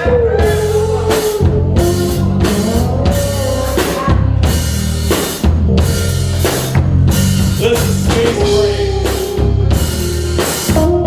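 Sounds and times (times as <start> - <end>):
drum kit beat: 0.0 - 11.0
heavy bass: 0.0 - 11.0.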